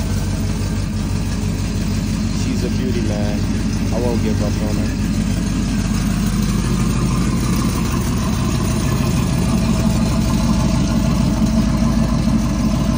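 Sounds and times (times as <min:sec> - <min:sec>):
vee eight engine idling: 0:00.0 - 0:12.9.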